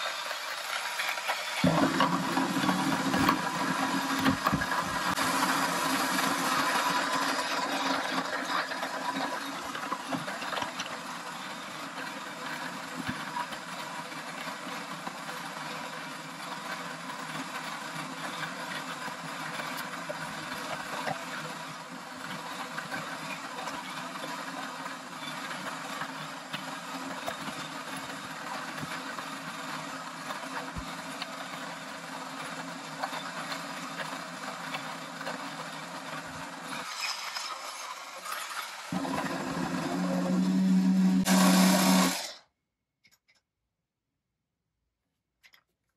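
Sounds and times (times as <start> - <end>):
coffee grinder motor whirring: 0.0 - 42.5.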